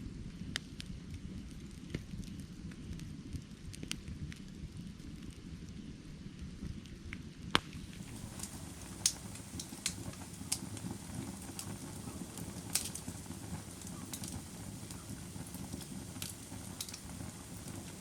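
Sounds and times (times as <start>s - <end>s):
low rumble of flames: 0.0s - 18.0s
fire crackling and popping: 0.1s - 18.0s.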